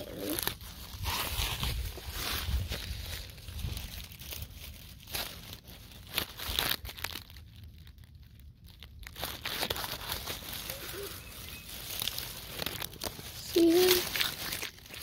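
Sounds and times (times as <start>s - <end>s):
dry leaves crackling and rustling: 0.0s - 15.0s.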